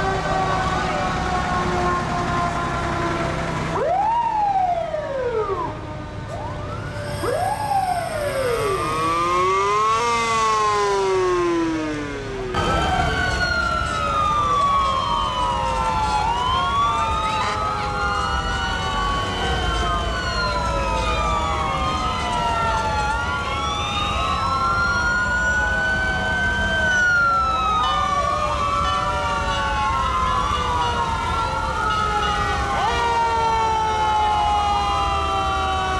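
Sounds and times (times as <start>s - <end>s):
fire engine sirens wailing: 0.0s - 35.9s
truck engines rumbling: 0.0s - 35.9s.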